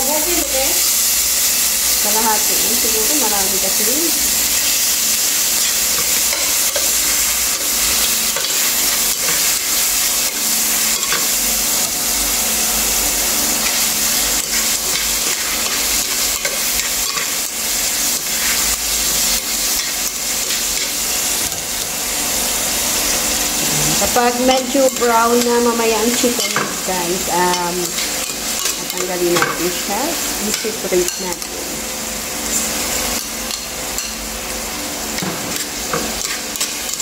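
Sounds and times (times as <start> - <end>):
chicken sizzling in pan: 0.0 - 37.0.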